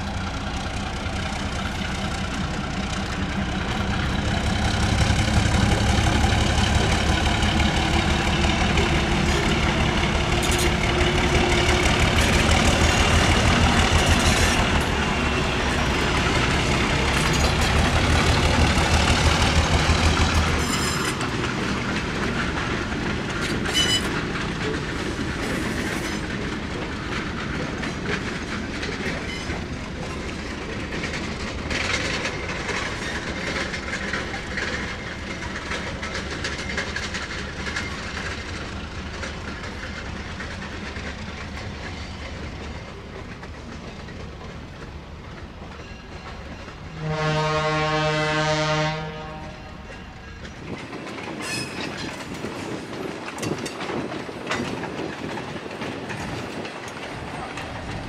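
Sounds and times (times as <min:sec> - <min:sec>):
diesel locomotive engine: 0:00.0 - 0:58.0
train wheels clicking over rail joints: 0:00.0 - 0:58.0.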